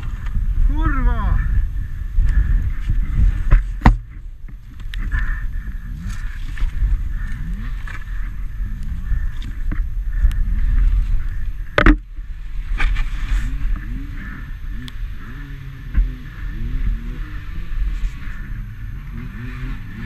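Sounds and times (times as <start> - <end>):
rumbling handling noise: 0.0 - 20.0.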